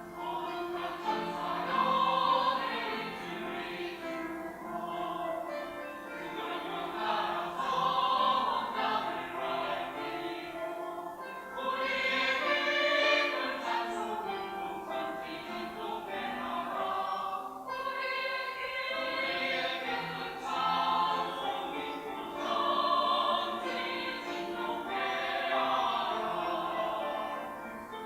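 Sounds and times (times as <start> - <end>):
church choir singing: 0.0 - 28.0.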